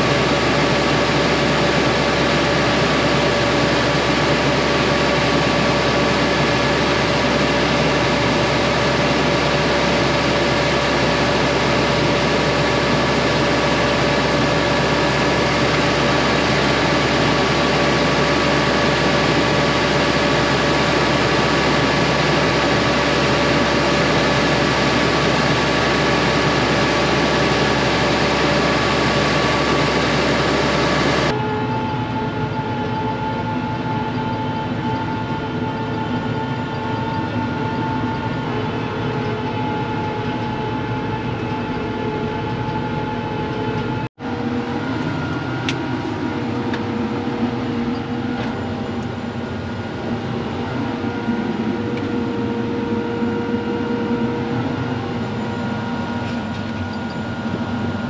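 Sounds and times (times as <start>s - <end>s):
engine droning steadily: 0.0s - 58.0s.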